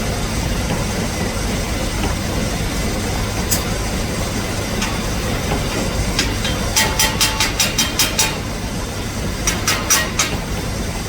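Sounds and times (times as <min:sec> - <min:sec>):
low machine rumble: 0:00.0 - 0:11.0
rapid metallic ticks: 0:00.4 - 0:11.0.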